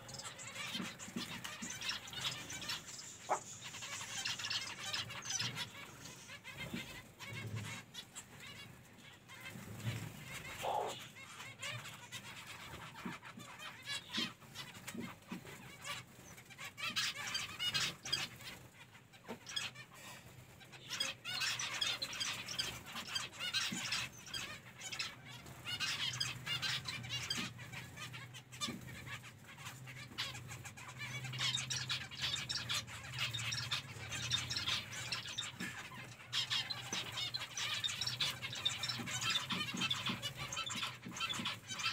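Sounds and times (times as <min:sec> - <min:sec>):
finches chirping: 0:00.0 - 0:41.9.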